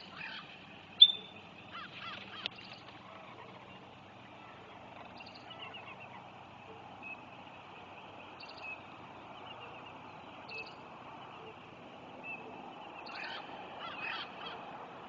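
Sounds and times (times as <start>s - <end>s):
bird chirping: 0.0s - 14.6s
outdoor background hiss: 0.0s - 15.0s.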